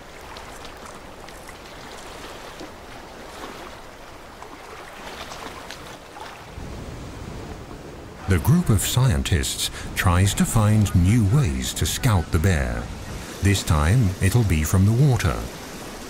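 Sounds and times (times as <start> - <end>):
water washing on rocky shore: 0.0 - 16.0.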